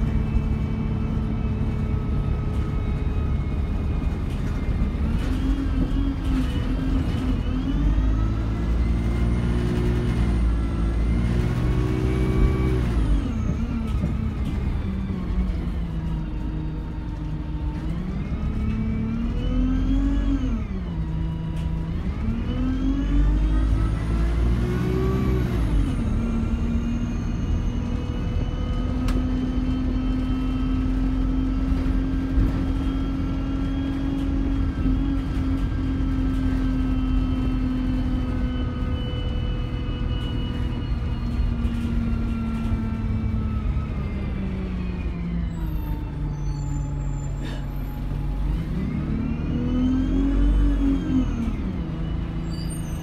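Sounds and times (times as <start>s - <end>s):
bus engine accelerating: 0.0s - 53.0s.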